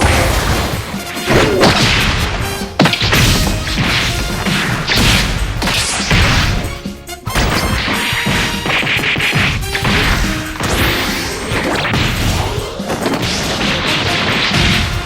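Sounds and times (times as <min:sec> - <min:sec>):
punches and crashes: 0:00.0 - 0:15.0.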